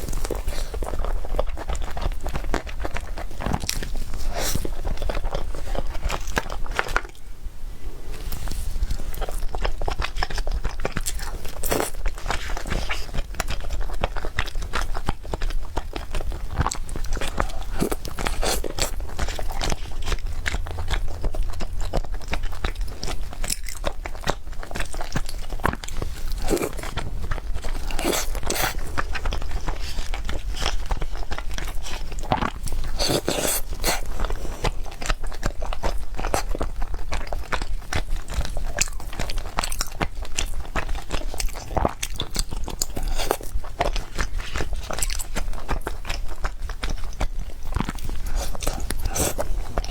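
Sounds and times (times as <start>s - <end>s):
person chewing cake: 0.0s - 7.4s, 8.1s - 49.9s.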